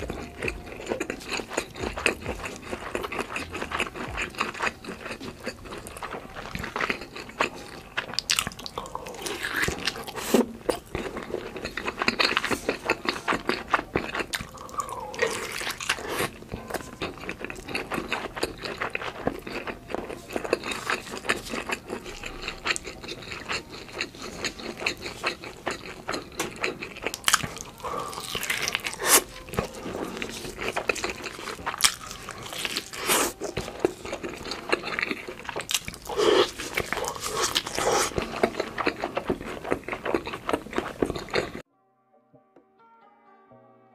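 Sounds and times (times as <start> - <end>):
wet sticky mouth sounds: 0.0 - 41.6
crunching bites of fried food: 1.0 - 16.4, 17.4 - 41.6.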